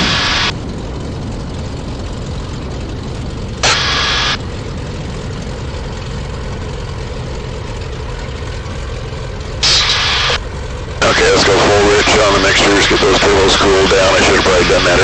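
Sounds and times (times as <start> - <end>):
plane engines idling: 0.0 - 15.0.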